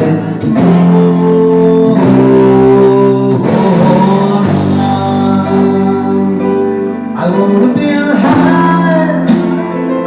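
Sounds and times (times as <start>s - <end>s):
electric guitar chords: 0.0s - 10.0s
rock band playing: 0.0s - 10.0s.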